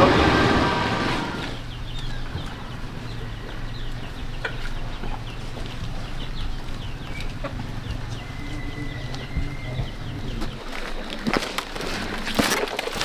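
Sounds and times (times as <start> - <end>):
chicks cheeping: 0.0 - 11.2.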